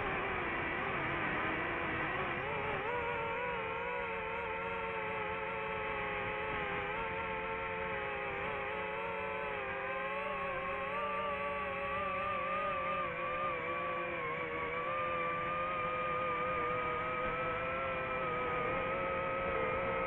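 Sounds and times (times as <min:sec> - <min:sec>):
small motor running: 0:00.0 - 0:20.0.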